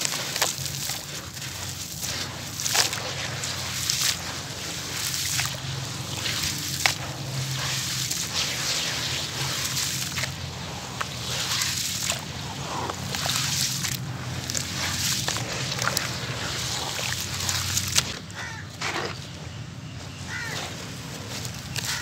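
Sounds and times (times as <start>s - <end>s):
water sloshing and swishing: 0.0s - 22.0s.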